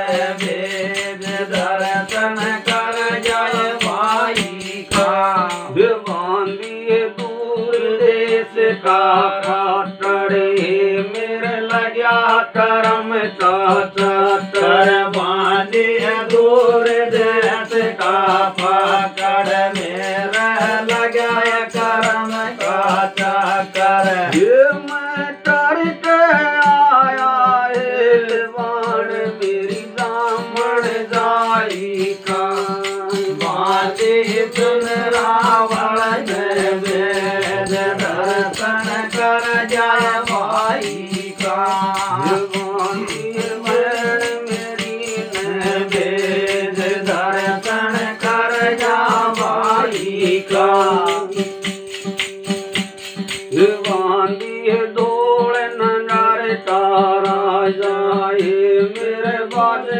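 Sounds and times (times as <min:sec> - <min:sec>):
person singing: 0:00.0 - 0:52.3, 0:53.1 - 0:59.9
sharp clicking beat: 0:00.0 - 0:59.7.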